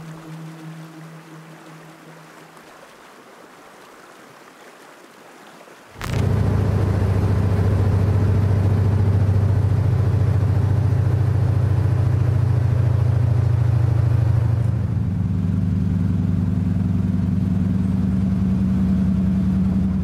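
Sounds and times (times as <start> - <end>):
propeller plane engine droning: 0.0 - 2.9, 6.0 - 20.0.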